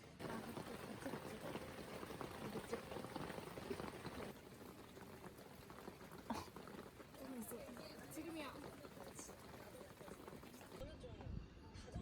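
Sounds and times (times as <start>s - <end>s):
liquid bubbling at a boil: 0.0s - 10.8s.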